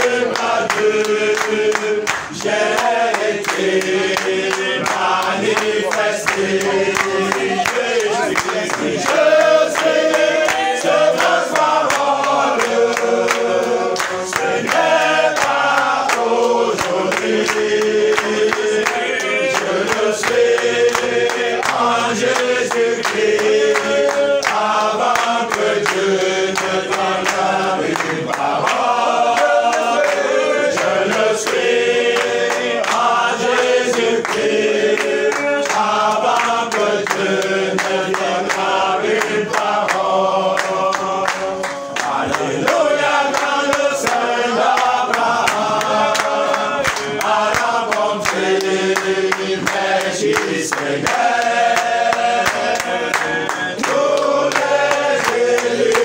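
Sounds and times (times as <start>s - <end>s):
hand claps: 0.0s - 56.0s
men singing worship song: 0.0s - 56.0s.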